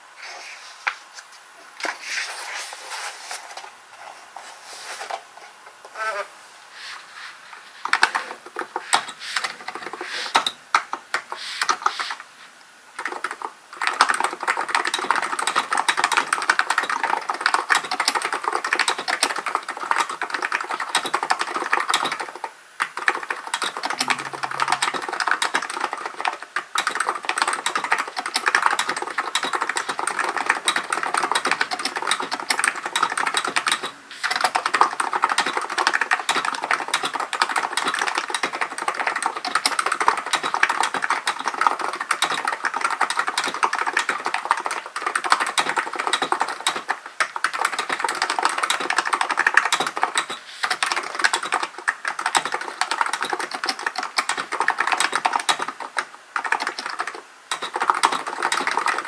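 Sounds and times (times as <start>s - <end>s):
keyboard typing: 7.9s - 12.2s, 13.0s - 59.0s.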